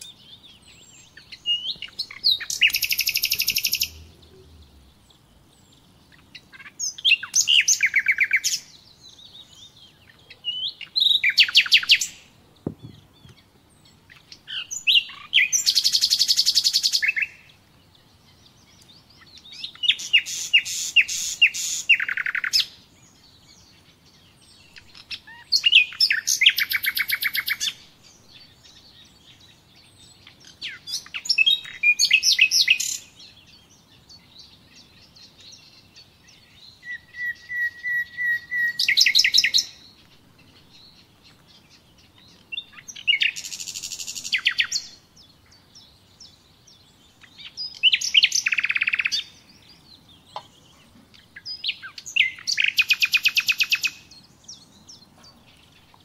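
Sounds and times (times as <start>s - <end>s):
songbird singing trills: 0.0s - 56.0s.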